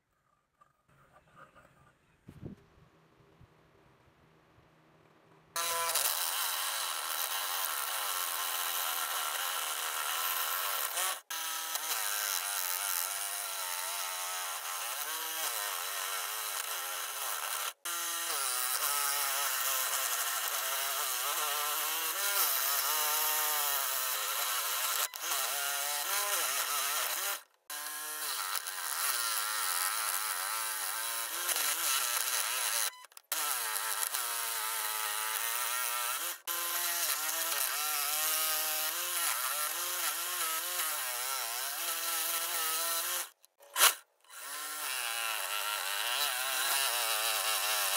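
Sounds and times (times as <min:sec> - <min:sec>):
scroll saw cutting wood: 0:05.5 - 0:47.9.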